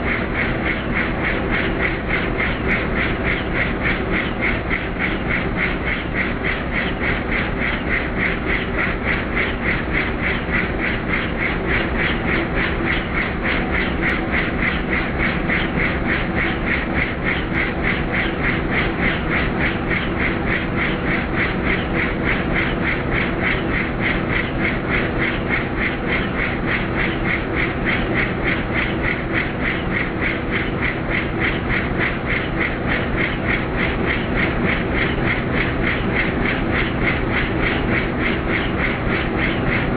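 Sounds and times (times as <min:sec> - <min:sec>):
helicopter engine drone: 0:00.0 - 0:39.9
helicopter rotor blades chopping: 0:00.0 - 0:39.9.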